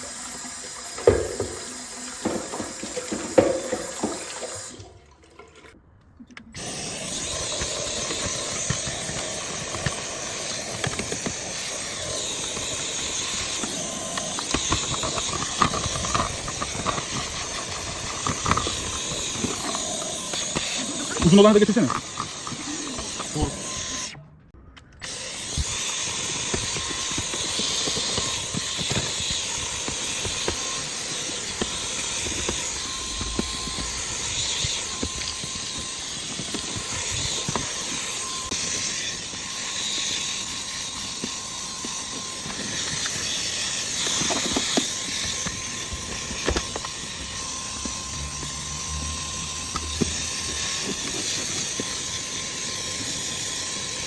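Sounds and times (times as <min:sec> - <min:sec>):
hissing suction motor: 0:00.0 - 0:04.9, 0:06.6 - 0:24.2, 0:25.0 - 0:54.0.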